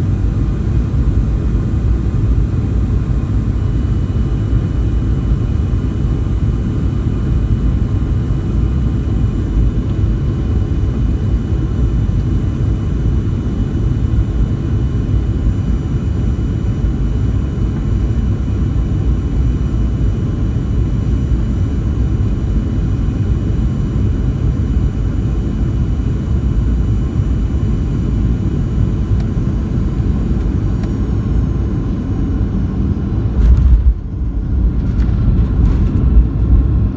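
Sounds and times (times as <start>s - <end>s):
high-pitched engine whine: 0.0s - 36.9s
low rumble of airliner engines: 0.0s - 36.9s.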